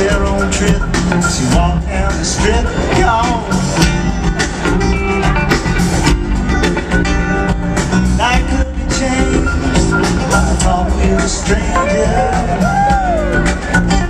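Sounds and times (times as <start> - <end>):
bass guitar: 0.0 - 14.0
drums: 0.0 - 14.0
live rock band playing: 0.0 - 14.0.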